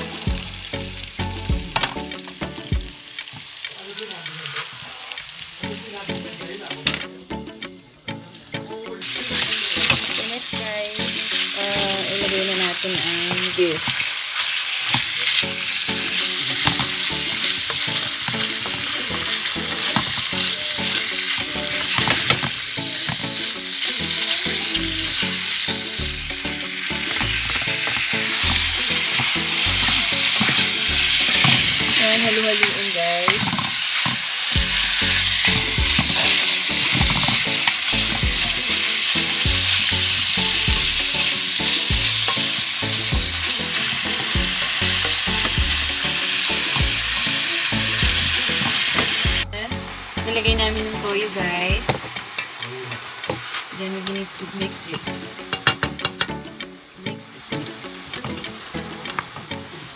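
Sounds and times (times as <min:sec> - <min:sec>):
meat and onion sizzling in oil: 0:00.0 - 0:59.9.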